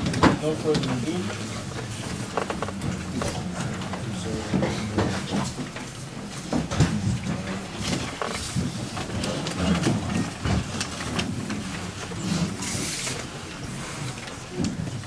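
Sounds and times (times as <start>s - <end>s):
clicks and knocks on wooden lectern: 0.0s - 12.4s
low murmured voices: 0.0s - 15.0s.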